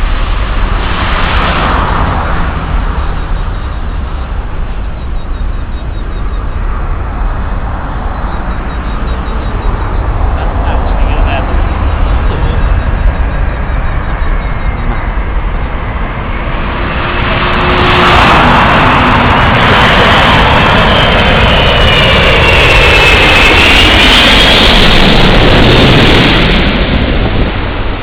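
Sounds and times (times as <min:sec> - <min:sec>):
high engine whine: 0:00.0 - 0:28.0
jet airliner roar overhead: 0:00.0 - 0:28.0.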